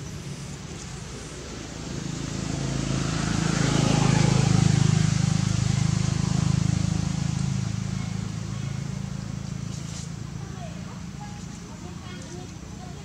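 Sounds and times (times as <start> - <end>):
vehicle engine passing by: 0.0 - 12.9.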